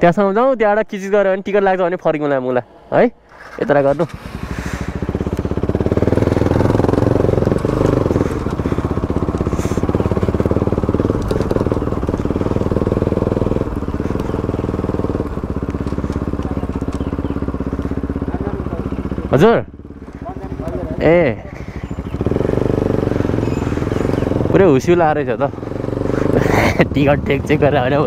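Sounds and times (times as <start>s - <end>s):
motorcycle engine running: 1.6s - 28.0s.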